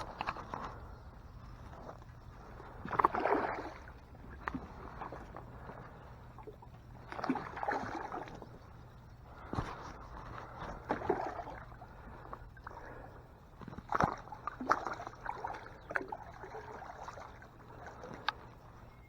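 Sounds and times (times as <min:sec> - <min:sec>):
water splashing against boat hull: 0:00.0 - 0:18.8
faint low hum: 0:00.0 - 0:19.0.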